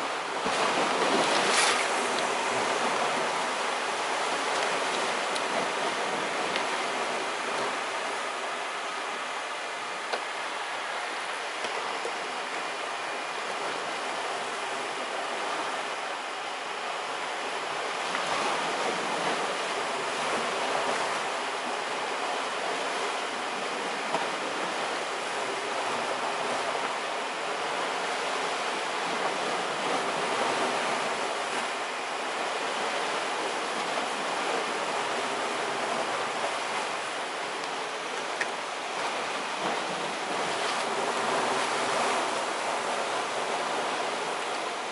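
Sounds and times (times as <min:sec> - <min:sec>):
sea waves on rocky shore: 0:00.0 - 0:44.9.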